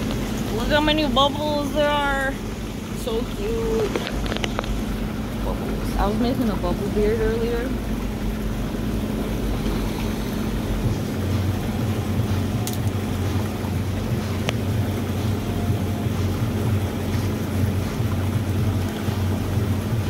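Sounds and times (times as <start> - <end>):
churning bubbling water: 0.0 - 20.0
pump hum: 0.0 - 20.0.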